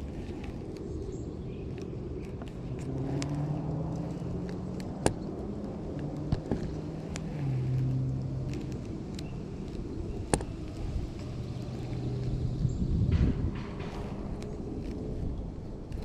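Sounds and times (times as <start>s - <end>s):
low engine hum: 0.0s - 16.0s
wind rumbling on microphone: 0.0s - 16.0s.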